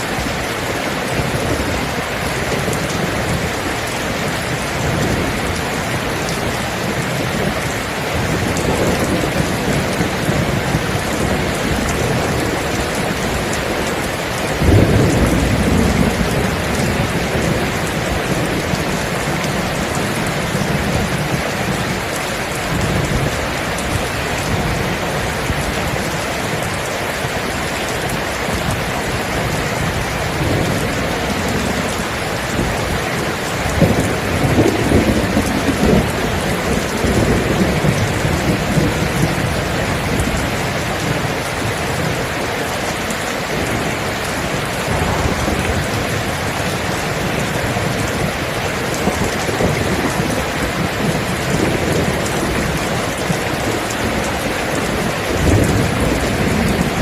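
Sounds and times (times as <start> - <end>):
rain falling: 0.0 - 57.0
thunder rumbling: 0.0 - 57.0.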